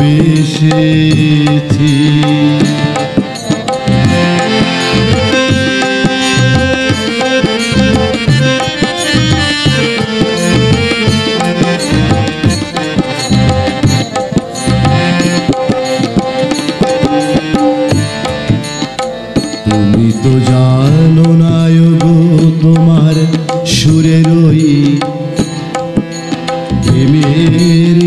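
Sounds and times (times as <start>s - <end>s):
harmonium tones: 0.0s - 28.0s
tabla playing fast rhythm: 0.0s - 28.0s.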